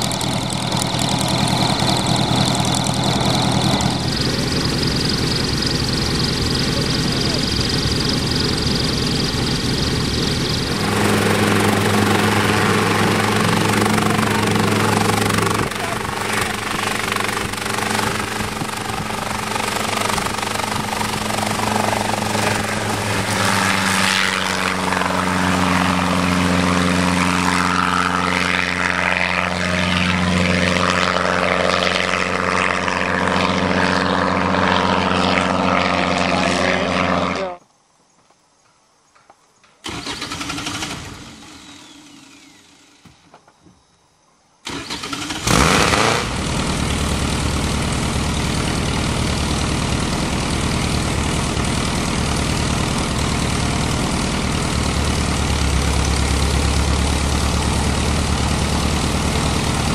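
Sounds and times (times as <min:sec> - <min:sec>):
helicopter engine and rotor: 0:00.0 - 0:36.8, 0:39.9 - 0:43.0, 0:46.4 - 0:59.9.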